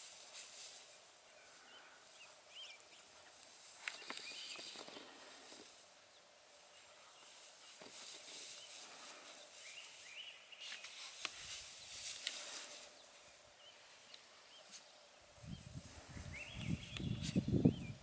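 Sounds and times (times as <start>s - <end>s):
rustling and scuffling in grass: 0.0s - 18.0s.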